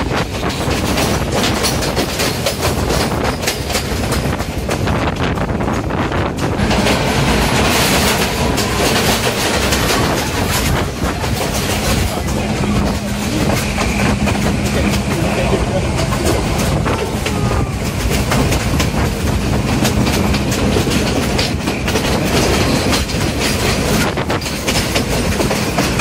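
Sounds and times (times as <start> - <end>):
train rolling on track: 0.0 - 26.0
wheels clicking over rails: 0.0 - 26.0.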